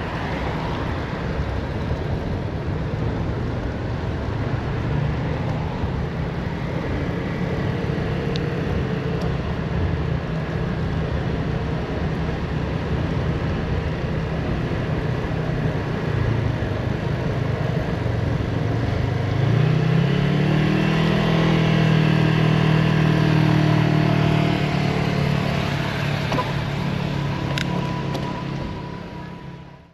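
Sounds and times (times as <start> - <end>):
wind and road noise: 0.0 - 29.9
vehicle engine running: 1.2 - 29.9.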